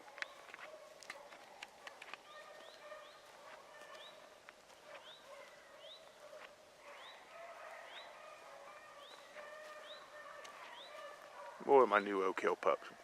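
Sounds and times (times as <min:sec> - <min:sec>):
distant hounds baying: 0:00.0 - 0:13.0.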